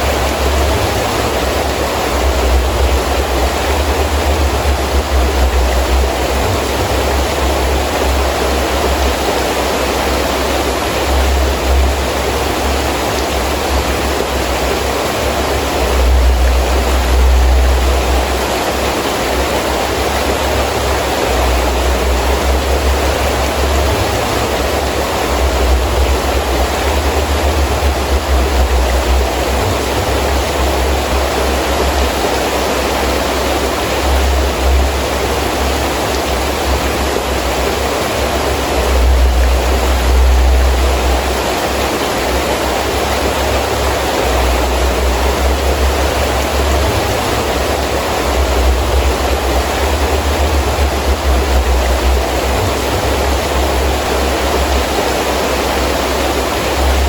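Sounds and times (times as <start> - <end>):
heavy rain falling: 0.0 - 57.0
wind gusts rumbling: 0.0 - 57.0.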